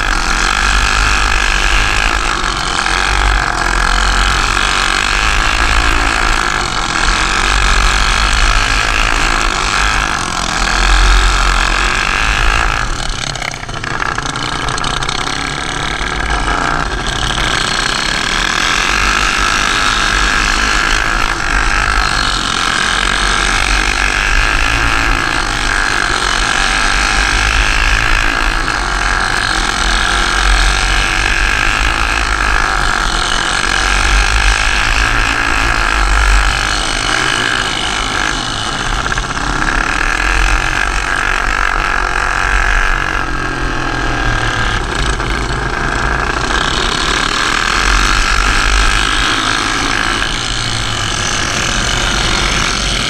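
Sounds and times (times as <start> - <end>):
kart engine at high revs: 0.0 - 53.0.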